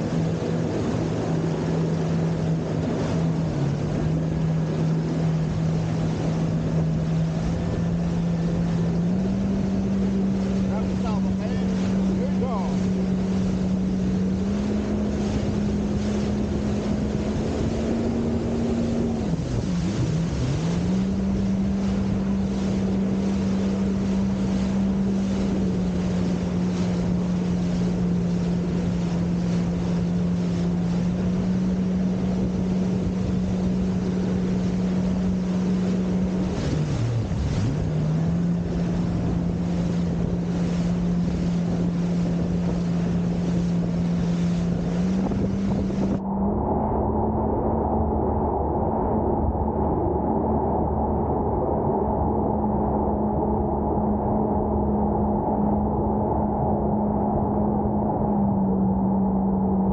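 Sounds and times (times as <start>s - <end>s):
motorboat engine humming: 0.0s - 59.9s
rushing water from wake: 0.0s - 59.9s
wind on microphone: 0.0s - 59.9s.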